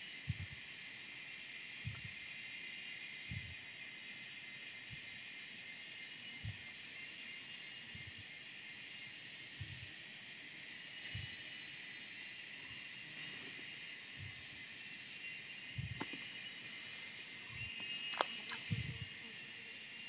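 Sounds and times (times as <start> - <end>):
insects whining: 0.0 - 20.0.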